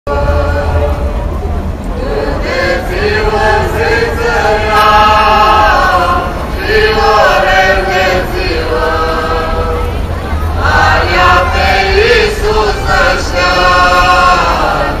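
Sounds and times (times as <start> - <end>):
choir singing held notes: 0.1 - 15.0
low rumble: 0.1 - 15.0.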